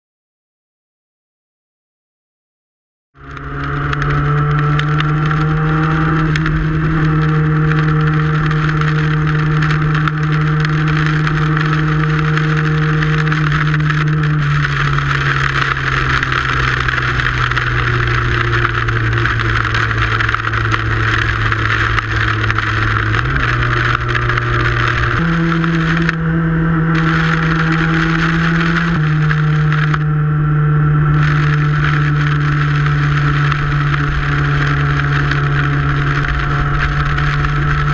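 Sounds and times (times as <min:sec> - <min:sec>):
motorcycle engine running: 0:03.2 - 0:37.9
wind and rain on microphone: 0:03.2 - 0:37.9.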